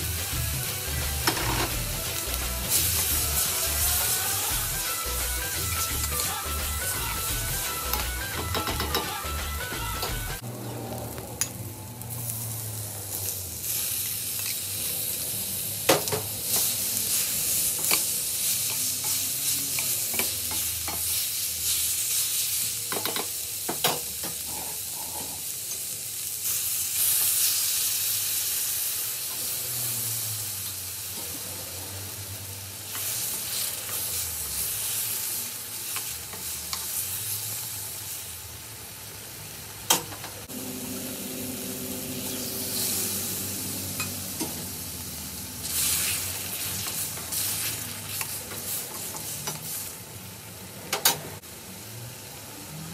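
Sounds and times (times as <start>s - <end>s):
food sizzling in a pan: 0.0s - 52.9s.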